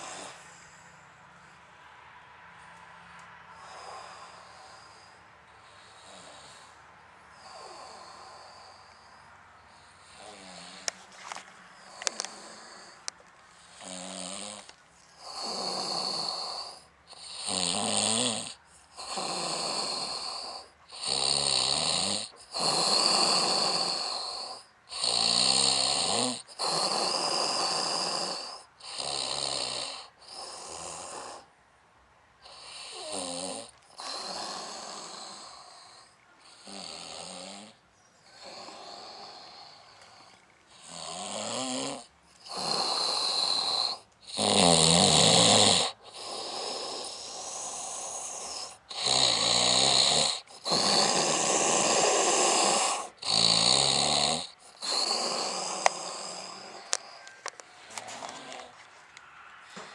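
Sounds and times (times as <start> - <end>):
man snoring: 0.0 - 0.7, 3.6 - 31.5, 32.4 - 58.8.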